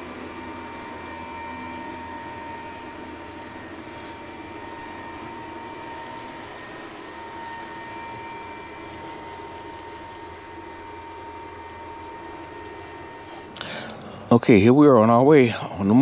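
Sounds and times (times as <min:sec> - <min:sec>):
leaf blower running: 0:00.0 - 0:16.0.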